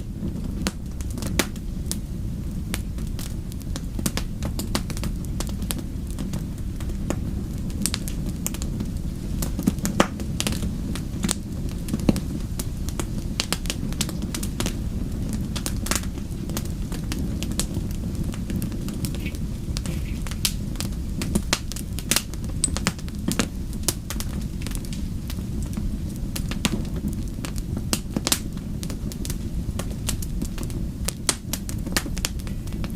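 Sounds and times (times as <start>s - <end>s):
fireplace fire crackling: 0.0s - 32.9s.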